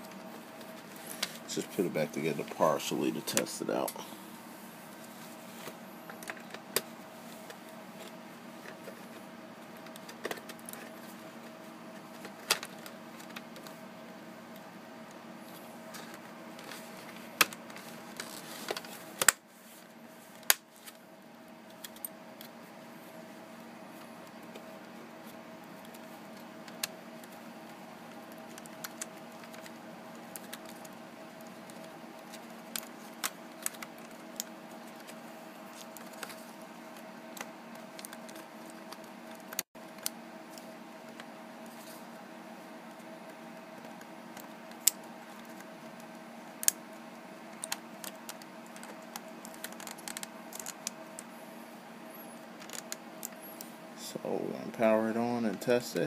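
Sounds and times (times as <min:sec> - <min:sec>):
faint hum: 0:00.0 - 0:56.0.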